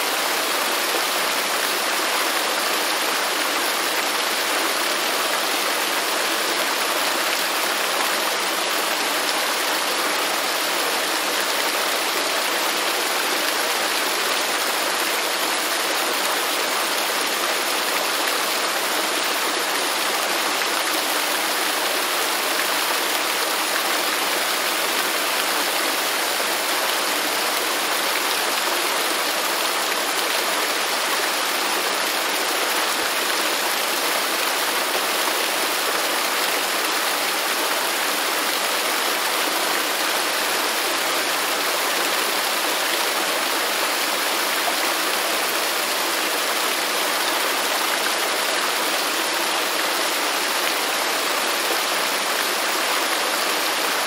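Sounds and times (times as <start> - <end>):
rushing river water: 0.0 - 54.0.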